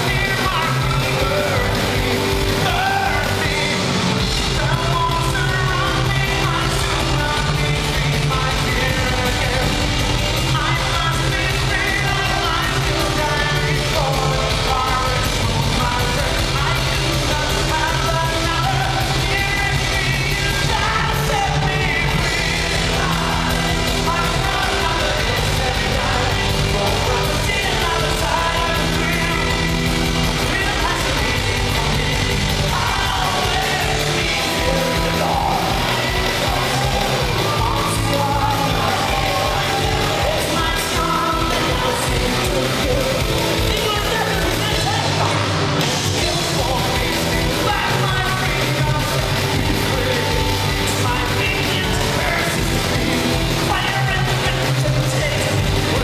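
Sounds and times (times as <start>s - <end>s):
man singing: 0.0s - 56.0s
power metal band playing live: 0.0s - 56.0s.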